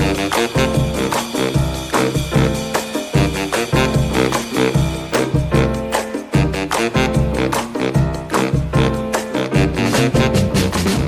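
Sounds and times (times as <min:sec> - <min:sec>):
upbeat swing music: 0:00.0 - 0:11.0.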